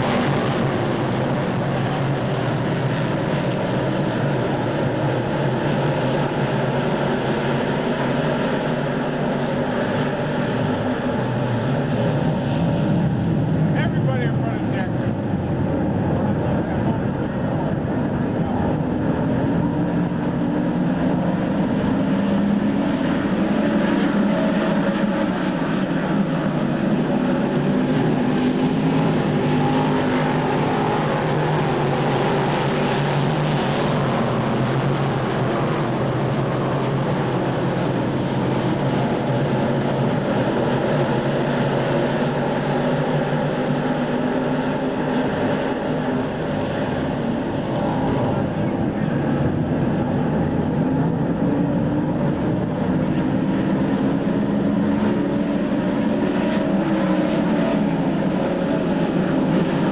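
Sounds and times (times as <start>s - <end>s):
race car engines droning: 0.0s - 59.9s.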